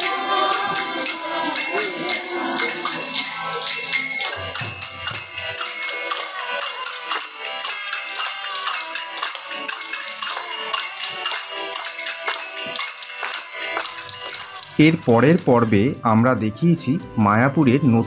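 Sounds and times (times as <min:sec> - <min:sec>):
jingling hand cymbals: 0:00.0 - 0:17.0
devotional music: 0:00.0 - 0:18.0.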